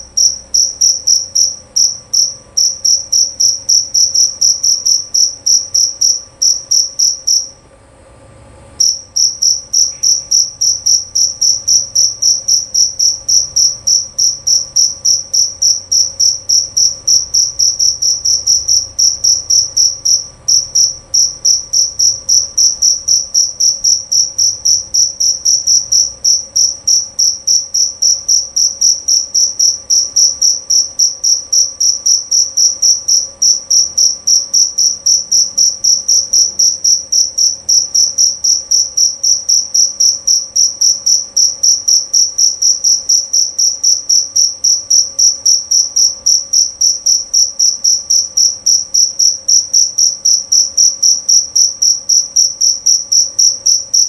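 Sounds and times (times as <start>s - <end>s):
cricket chirping: 0.0s - 7.6s, 8.8s - 54.0s.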